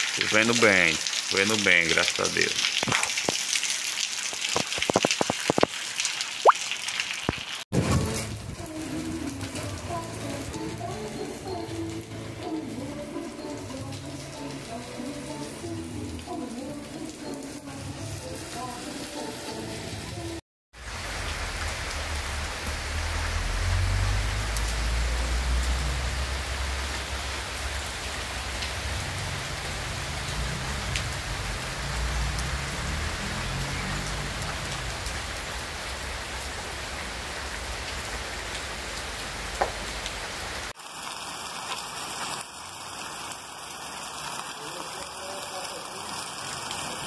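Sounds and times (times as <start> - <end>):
heavy rain on pavement: 0.0 - 20.0, 20.7 - 47.0
light rain on wet street: 0.0 - 47.0.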